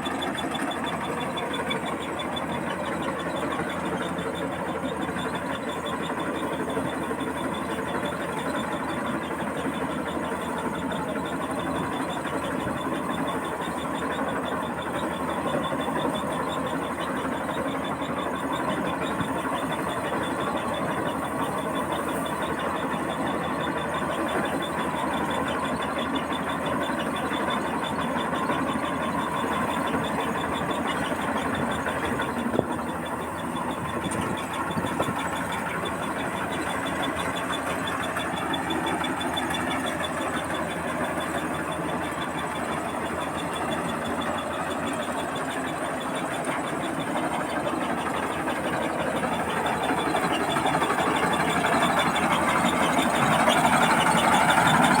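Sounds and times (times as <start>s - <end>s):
combine harvester droning: 0.0s - 55.0s.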